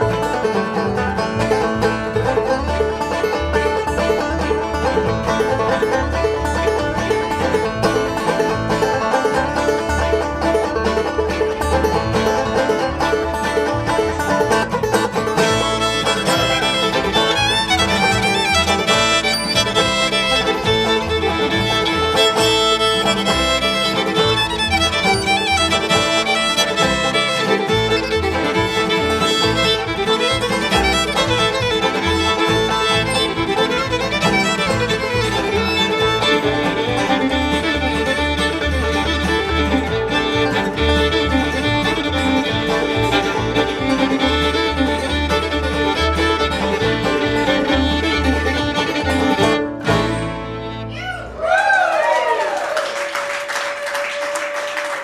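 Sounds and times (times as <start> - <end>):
banjo: 0.0 - 51.0
guitar backing: 0.0 - 51.5
fiddle: 0.0 - 51.8.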